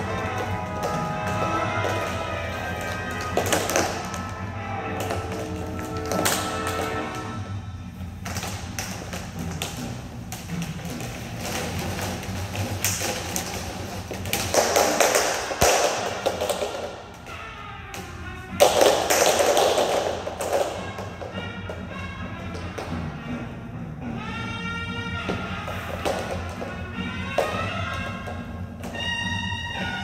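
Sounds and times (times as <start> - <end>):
hula hoops knocking together: 0.0 - 7.4, 8.1 - 23.3, 25.2 - 29.2.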